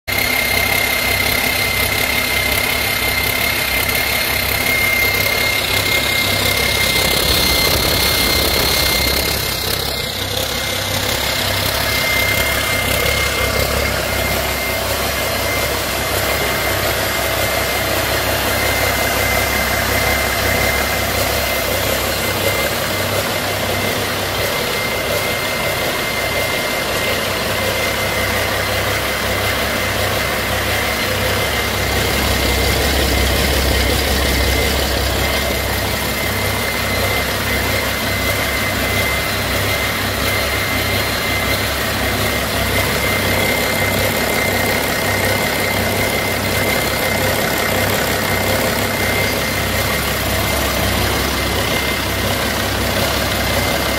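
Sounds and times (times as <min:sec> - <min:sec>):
diesel engine idling: 0:00.1 - 0:53.9
high-pitched whine: 0:00.1 - 0:53.9.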